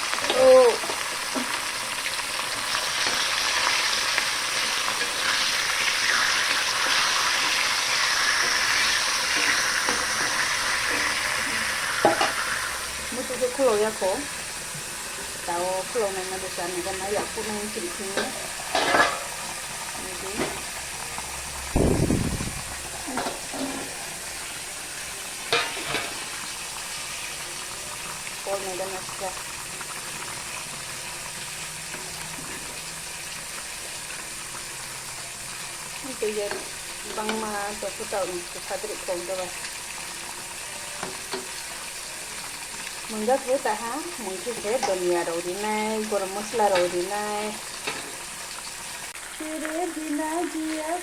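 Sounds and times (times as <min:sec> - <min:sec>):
food sizzling in a pan: 0:00.0 - 0:51.0.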